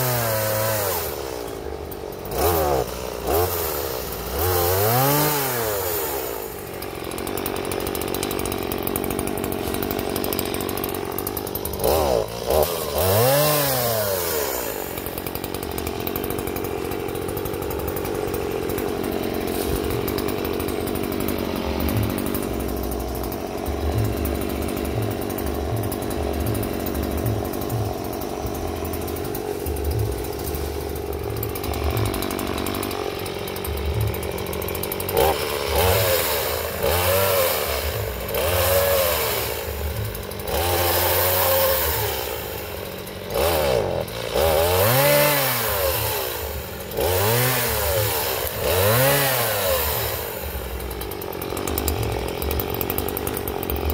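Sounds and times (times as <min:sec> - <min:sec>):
chainsaw idling: 0:00.0 - 0:53.9
chainsaw revving: 0:00.0 - 0:53.9.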